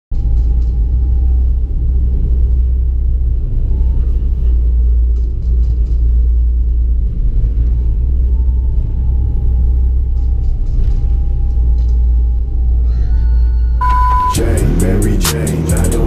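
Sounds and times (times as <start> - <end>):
diesel engine rumble from cabin: 0.1 - 16.0.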